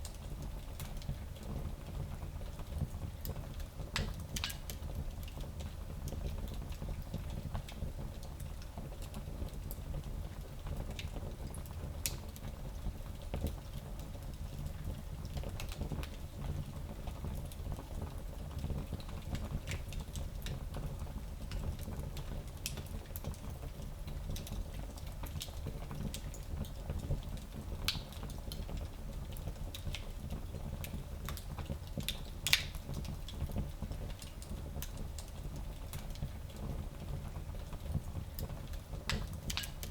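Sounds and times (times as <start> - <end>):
fire crackles and pops: 0.0 - 39.9.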